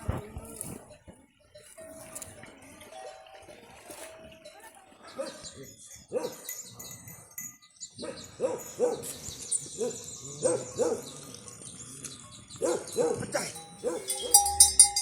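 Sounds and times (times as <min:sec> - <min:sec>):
small birds chirping: 0:01.4 - 0:15.0.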